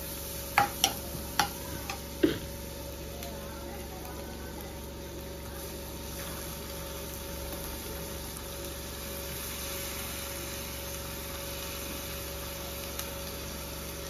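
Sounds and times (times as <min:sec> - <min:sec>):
steady motor hum: 0:00.0 - 0:14.0
vegetables frying in a pan: 0:00.0 - 0:14.0.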